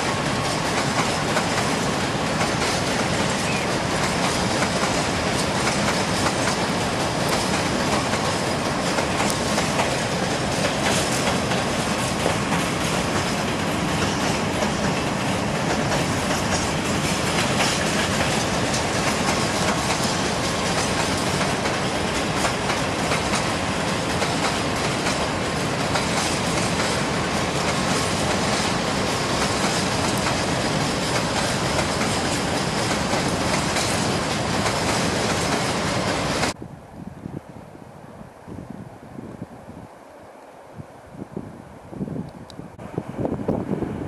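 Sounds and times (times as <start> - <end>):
wheels clacking over rail joints: 0.0 - 36.6
freight train rumbling: 0.0 - 44.0.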